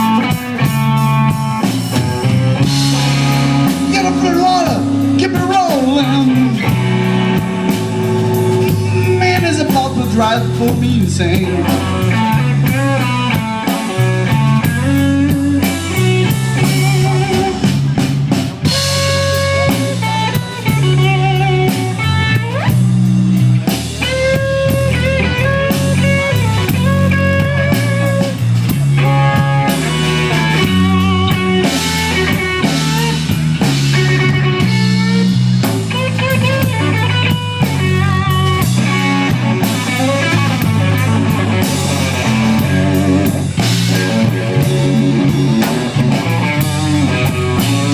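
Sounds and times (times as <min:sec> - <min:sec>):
drum kit: 0:00.0 - 0:47.9
electric bass: 0:00.0 - 0:47.9
electric guitar solo: 0:00.0 - 0:47.9.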